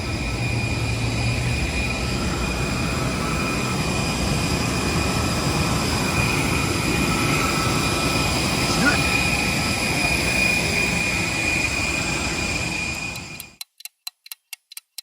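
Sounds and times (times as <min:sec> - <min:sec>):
constant high whine: 0:00.0 - 0:13.6.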